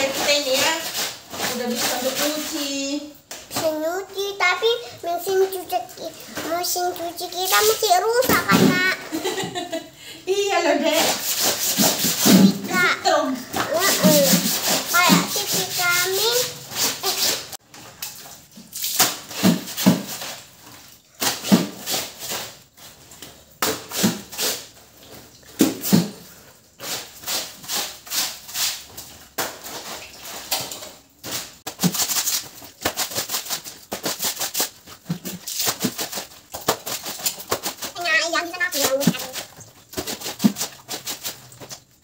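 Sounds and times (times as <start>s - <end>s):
laundry scrubbed by hand: 0.0s - 3.0s, 3.6s - 9.7s, 10.4s - 42.0s.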